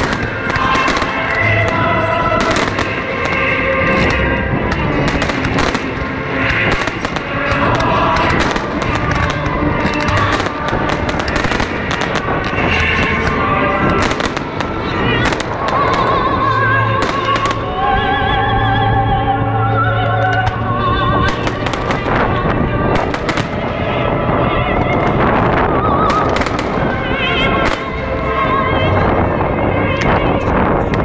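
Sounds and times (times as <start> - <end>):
fireworks bangs and crackles: 0.0 - 18.6, 20.0 - 31.0
loud music: 0.0 - 30.9.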